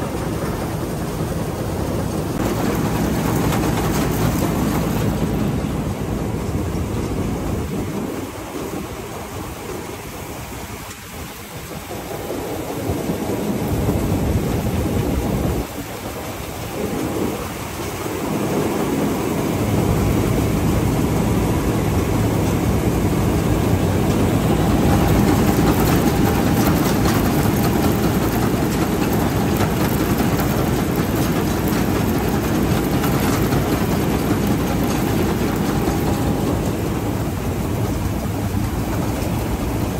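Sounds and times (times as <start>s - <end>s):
combine harvester running: 0.0s - 10.8s, 16.7s - 39.9s.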